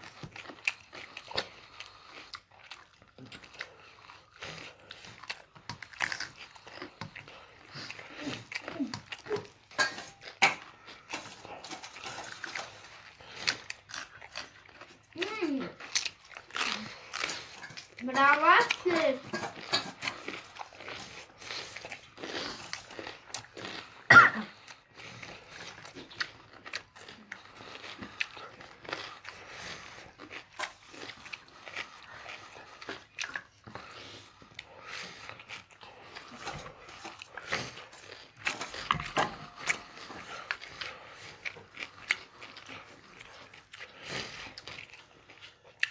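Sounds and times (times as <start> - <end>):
chewing and mouth noises: 0.0 - 45.9.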